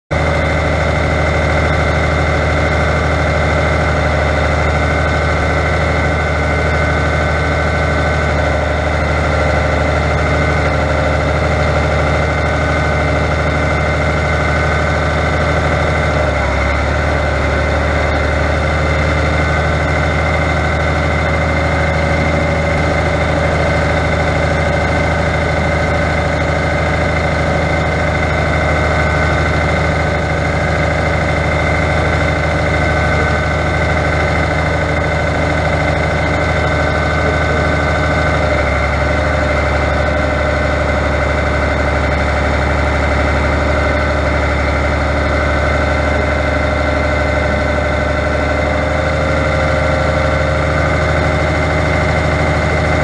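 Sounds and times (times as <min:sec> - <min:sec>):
tractor diesel engine running: 0:00.0 - 0:53.0
steady high whine: 0:00.1 - 0:53.0.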